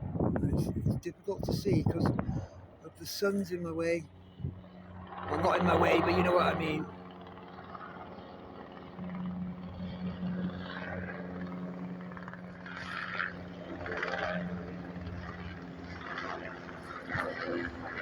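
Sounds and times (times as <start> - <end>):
helicopter engine and rotor drone: 0.0 - 18.0.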